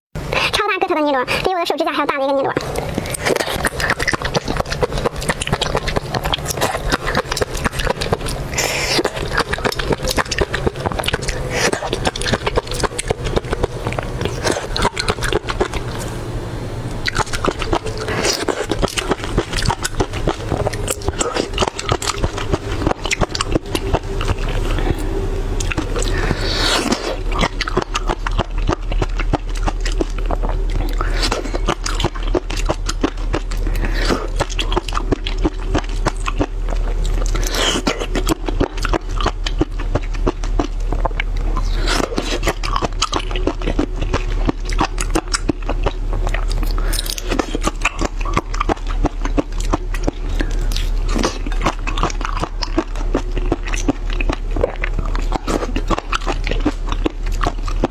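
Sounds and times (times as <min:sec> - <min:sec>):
sucking and slurping: 0:02.3 - 0:57.9
wet mouth sounds eating snails: 0:02.3 - 0:57.9.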